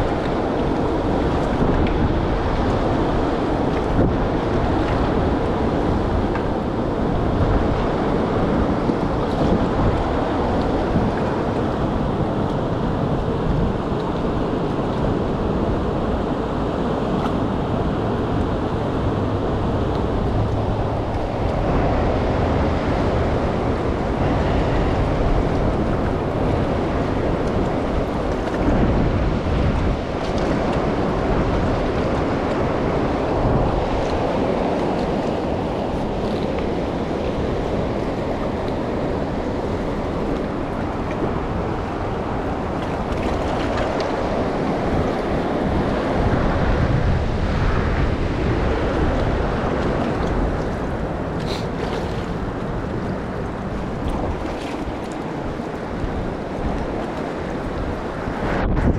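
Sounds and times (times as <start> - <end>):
river current rushing: 0.0 - 58.9
wind buffeting microphone: 0.0 - 58.9.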